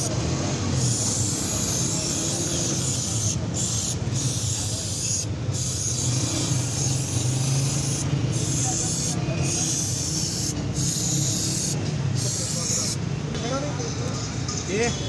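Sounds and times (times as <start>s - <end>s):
aerosol spray hissing: 0.8s - 13.0s.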